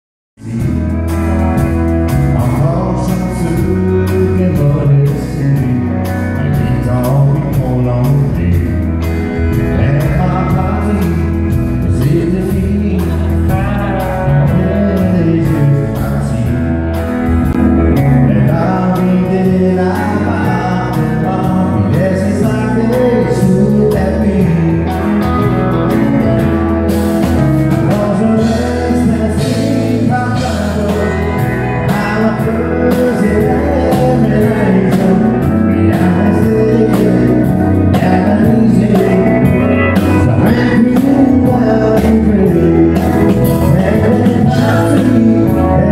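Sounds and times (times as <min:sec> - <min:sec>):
acoustic and electric guitars: 0:00.4 - 0:45.9
drums: 0:00.4 - 0:45.9
keyboard: 0:00.4 - 0:45.9
pedal steel guitar: 0:00.4 - 0:45.9.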